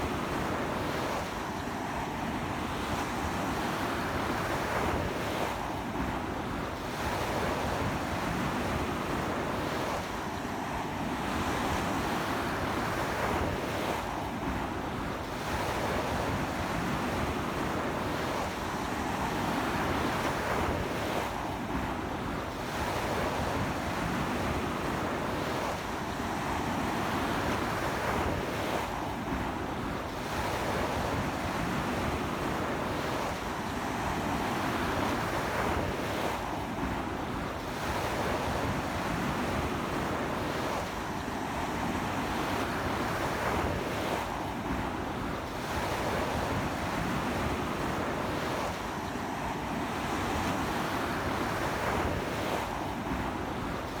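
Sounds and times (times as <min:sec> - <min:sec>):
strong sea wind: 0:00.0 - 0:54.0.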